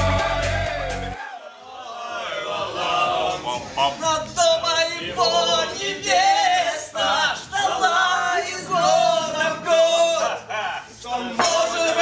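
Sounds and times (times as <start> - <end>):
men singing: 0.0 - 1.2, 2.3 - 12.0.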